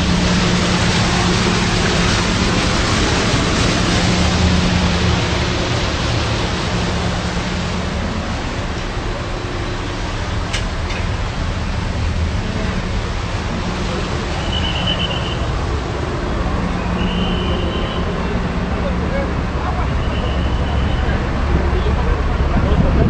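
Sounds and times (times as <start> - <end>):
loud rushing noise: 0.0 - 23.0
vehicle engine humming: 0.0 - 23.0.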